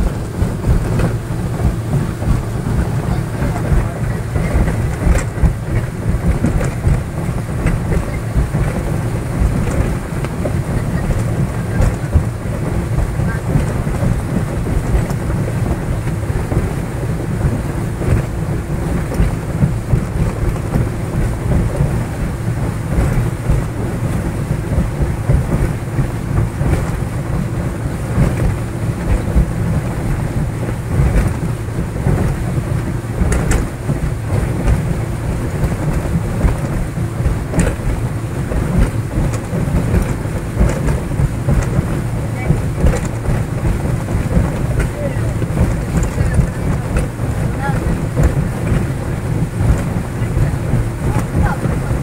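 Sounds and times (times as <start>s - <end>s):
motorboat engine drone: 0.0s - 52.0s
wind rumble on microphone: 0.0s - 52.0s.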